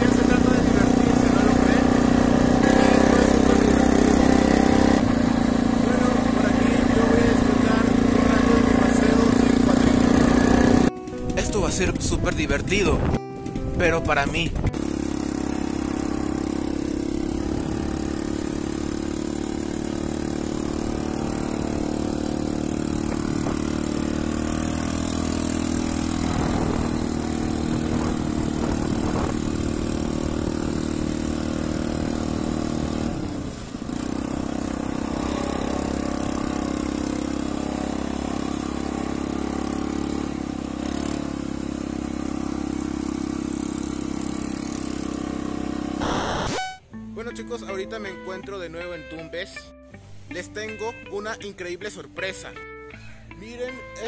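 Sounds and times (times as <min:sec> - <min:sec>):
quad bike engine under throttle: 0:00.0 - 0:46.9.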